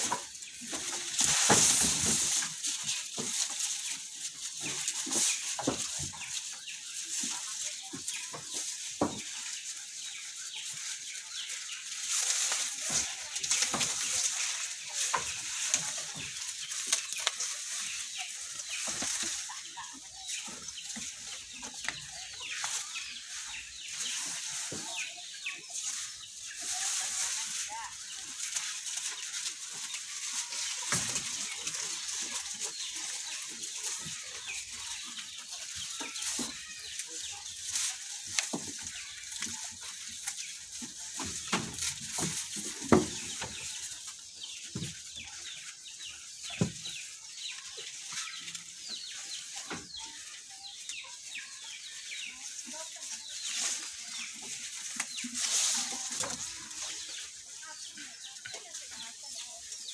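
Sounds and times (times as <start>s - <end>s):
goats chewing grass: 0.0s - 59.9s.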